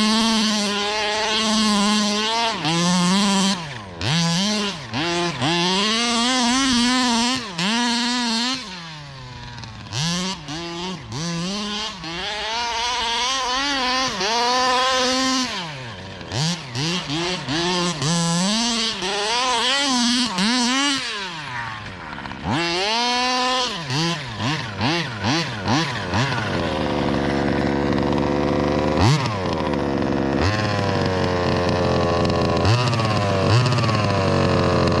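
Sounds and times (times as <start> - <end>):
two-stroke engine revving: 0.0 - 35.0.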